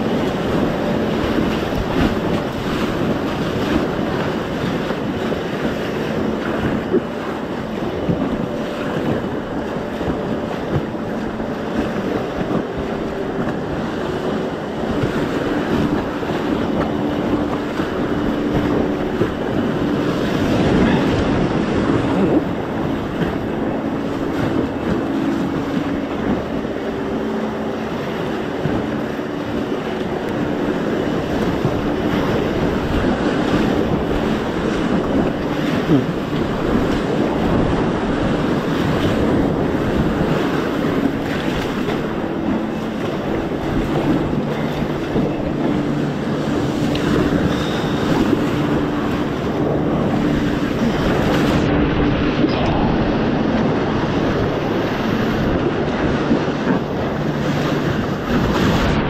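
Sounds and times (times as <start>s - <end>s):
paddle dipping into water: 0.0s - 59.0s
whitewater rapids rushing: 0.0s - 59.0s.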